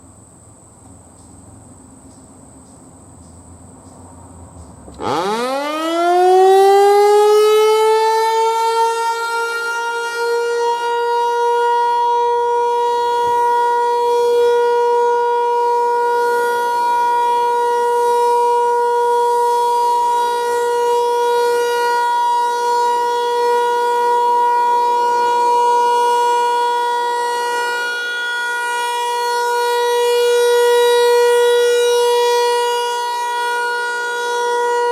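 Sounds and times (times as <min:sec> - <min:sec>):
outdoor warning siren: 0:04.9 - 0:34.9.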